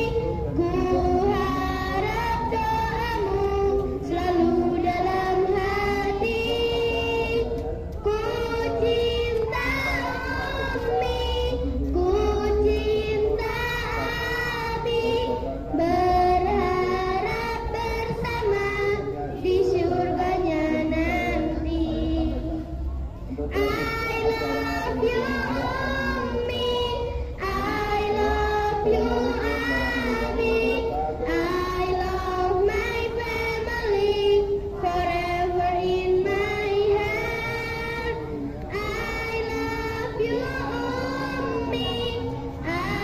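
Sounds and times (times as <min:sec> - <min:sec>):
children singing: 0:00.0 - 0:43.0.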